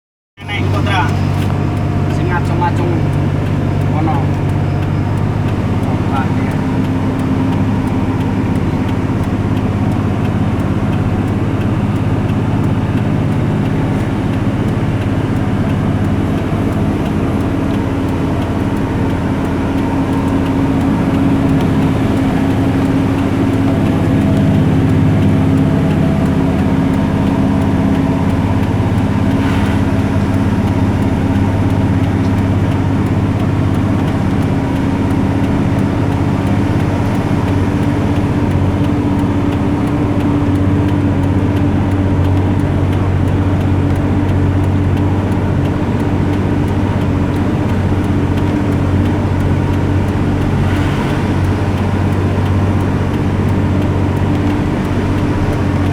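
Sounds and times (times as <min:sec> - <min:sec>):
road noise: 0:00.4 - 0:55.9
vehicle engine running steadily: 0:00.4 - 0:55.9.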